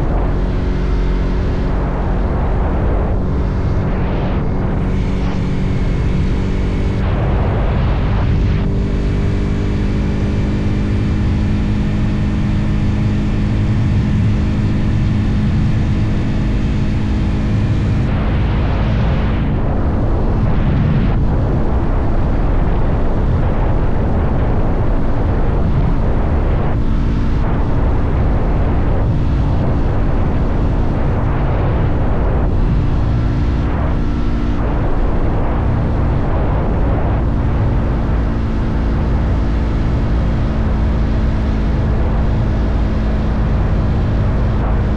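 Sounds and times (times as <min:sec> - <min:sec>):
motorcycle engine cruising: 0:00.0 - 0:36.2
wind rushing over microphone: 0:00.0 - 0:44.9.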